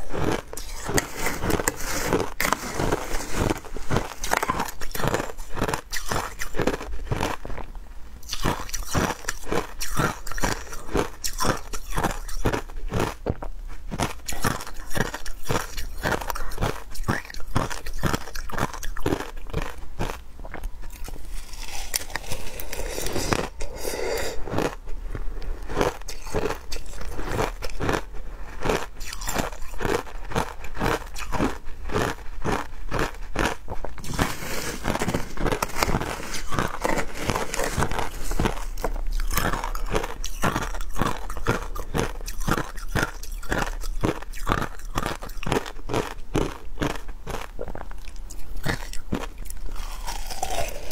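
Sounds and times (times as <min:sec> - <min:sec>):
ice crunching being chewed: 0:00.0 - 0:50.9.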